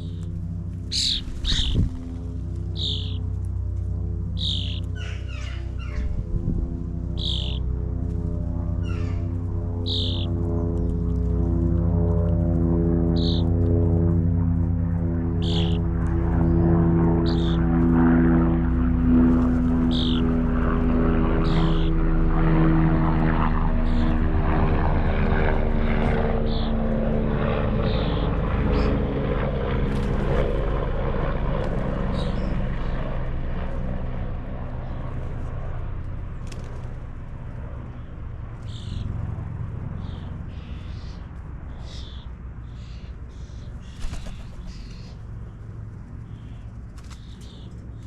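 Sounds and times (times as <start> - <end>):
low engine drone passing: 0.0 - 48.0.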